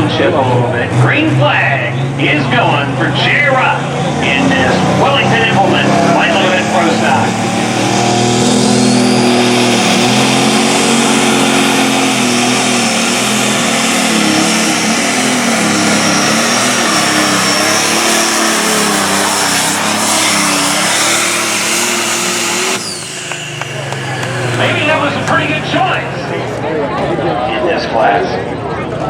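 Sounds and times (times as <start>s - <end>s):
high turbo whine: 0.0s - 26.8s
diesel engine at full throttle: 0.0s - 29.0s.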